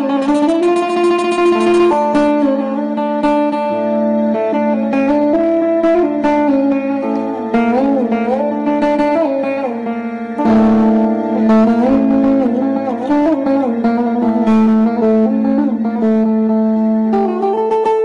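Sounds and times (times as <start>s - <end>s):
held drone notes: 0.0s - 17.6s
plucked string instrument melody: 0.0s - 18.0s.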